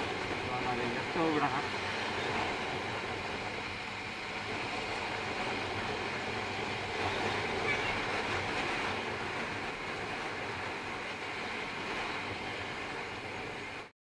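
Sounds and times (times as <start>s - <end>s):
road noise: 0.0s - 13.9s
wind rush: 0.0s - 13.9s.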